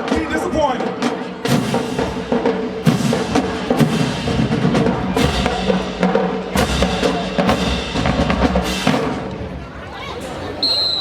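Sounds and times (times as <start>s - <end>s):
marching band brass: 0.0s - 9.7s
drumline with bass drums: 0.0s - 11.0s.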